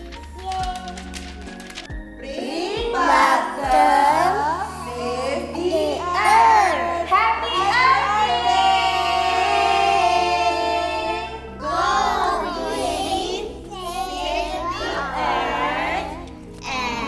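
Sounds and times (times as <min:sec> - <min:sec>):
children singing: 0:02.2 - 0:17.0.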